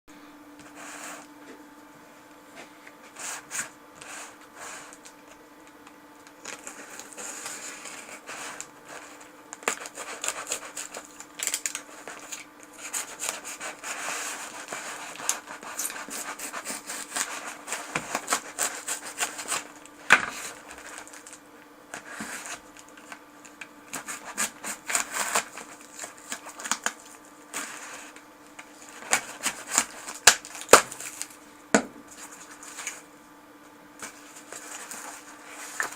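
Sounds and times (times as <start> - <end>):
faint steady hum: 0.1 - 35.9.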